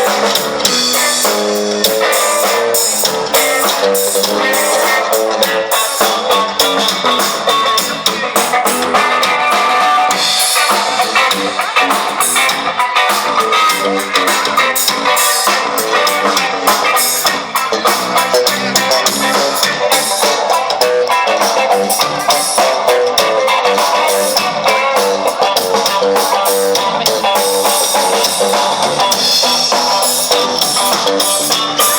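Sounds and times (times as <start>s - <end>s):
band playing: 0.0s - 31.9s
drum kit beat: 0.0s - 31.9s
guitar: 0.0s - 31.9s.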